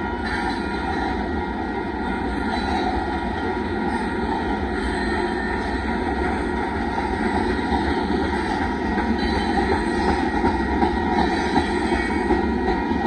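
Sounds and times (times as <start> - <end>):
steel wheels rumbling on rail: 0.0 - 13.0.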